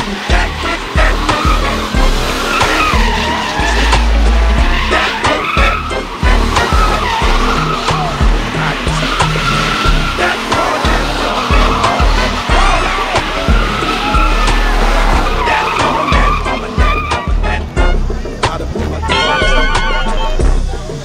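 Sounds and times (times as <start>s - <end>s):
car engine revving: 0.0s - 21.0s
music beat with heavy bass: 0.0s - 21.0s
tires squealing: 0.0s - 21.0s.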